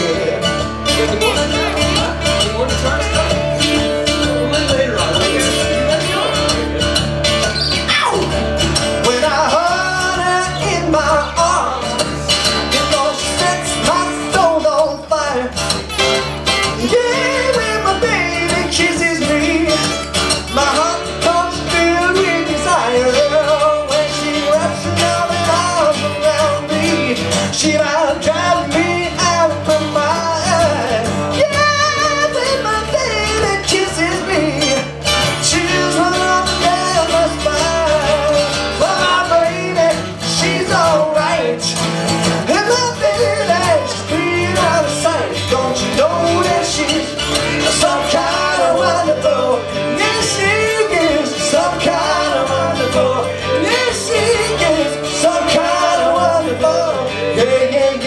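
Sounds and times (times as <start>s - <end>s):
acoustic guitars: 0.0s - 58.0s
man singing: 0.0s - 58.0s.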